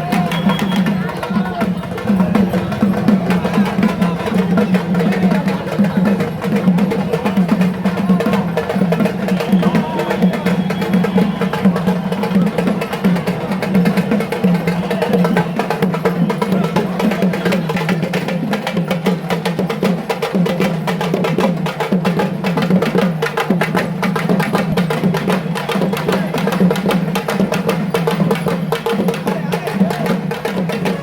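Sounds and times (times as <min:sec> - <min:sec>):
fast continuous drumming: 0:00.0 - 0:31.0.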